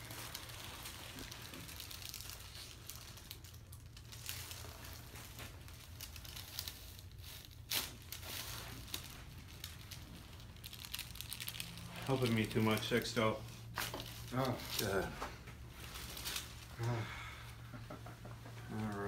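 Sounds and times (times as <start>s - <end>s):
rustling and crinkling: 0.0s - 19.0s.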